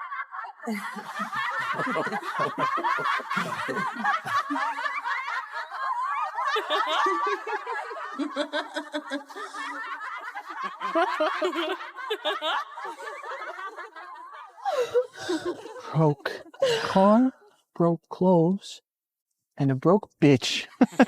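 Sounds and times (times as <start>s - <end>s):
group of people laughing: 0.0s - 17.3s, 20.7s - 21.0s.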